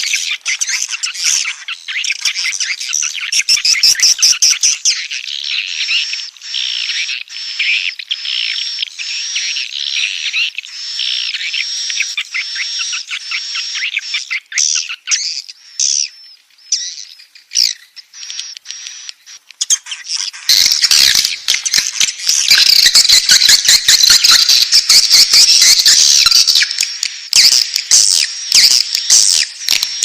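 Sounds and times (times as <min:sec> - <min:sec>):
bird chicks chirping: 0:00.0 - 0:30.0.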